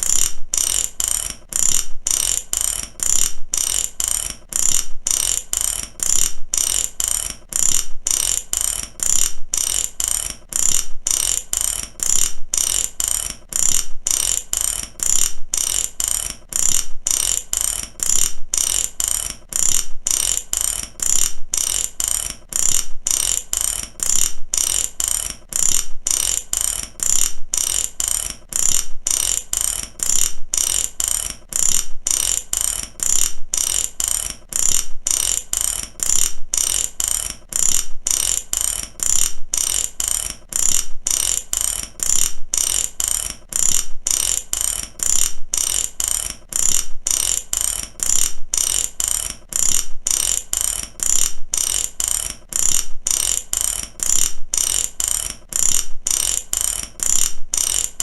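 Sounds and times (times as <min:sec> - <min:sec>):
ratchet wrench clicking: 0:00.0 - 0:58.0.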